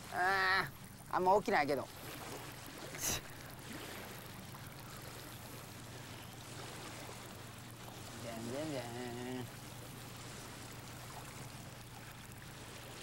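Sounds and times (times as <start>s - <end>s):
steady low hum: 0.0s - 13.0s
water lapping and trickling: 0.0s - 13.0s.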